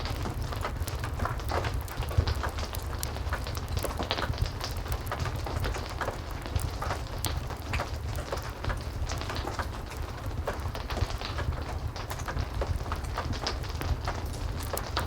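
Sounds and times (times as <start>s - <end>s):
heavy rain falling: 0.0s - 15.0s
wood fire crackling: 0.0s - 15.0s.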